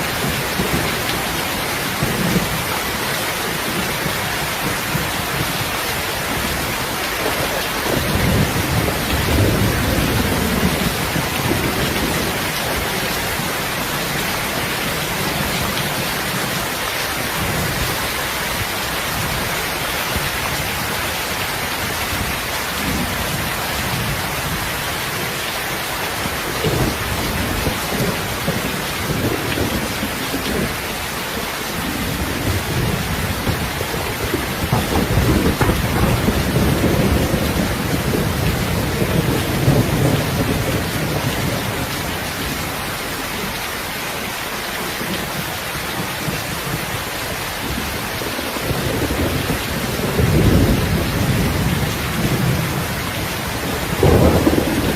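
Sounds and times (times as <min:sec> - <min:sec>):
low rolling thunder: 0:00.0 - 0:21.0, 0:26.2 - 0:43.6, 0:47.6 - 0:54.9
rain hissing: 0:00.0 - 0:54.9.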